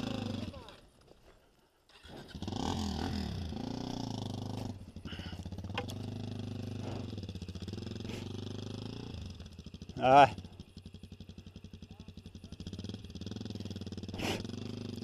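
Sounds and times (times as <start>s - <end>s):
dirt bike engine revving: 0.0s - 0.9s, 1.9s - 15.0s.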